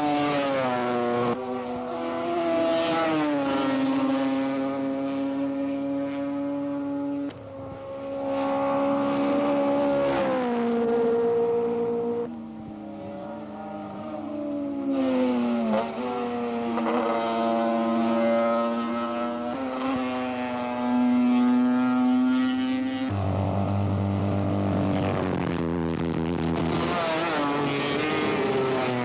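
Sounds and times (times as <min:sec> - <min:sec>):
motorcycle engines revving high: 0:00.0 - 0:29.0.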